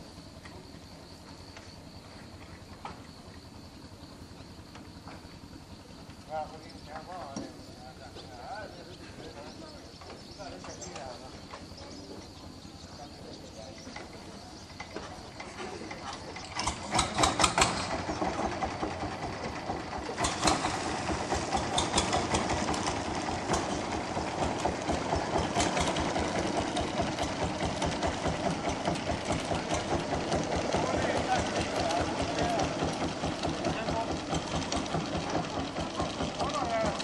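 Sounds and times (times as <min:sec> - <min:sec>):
boat engine putter: 0:00.2 - 0:37.0.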